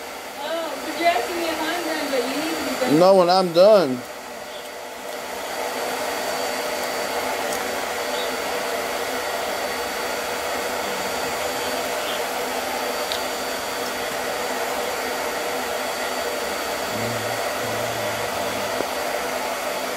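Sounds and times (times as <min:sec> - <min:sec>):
fan blowing: 0:00.0 - 0:19.9.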